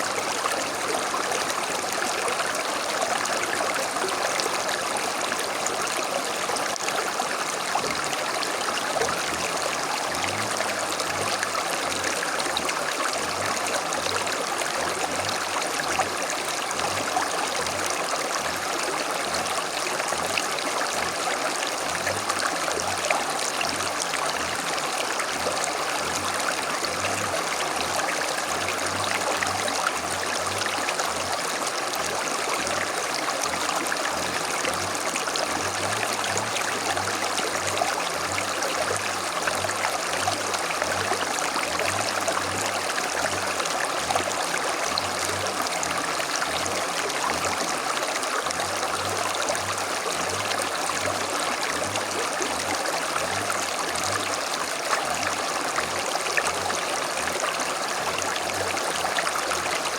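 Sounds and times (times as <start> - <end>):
creek flowing: 0.0 - 59.9.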